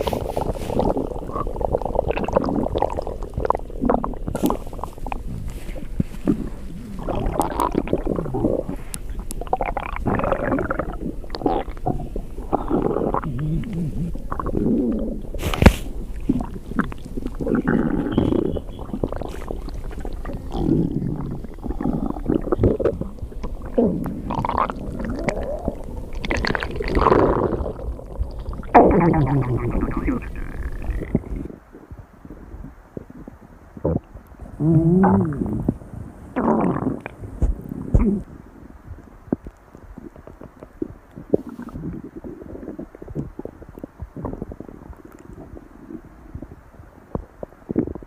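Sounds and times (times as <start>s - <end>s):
stomach growling: 0.0s - 48.0s.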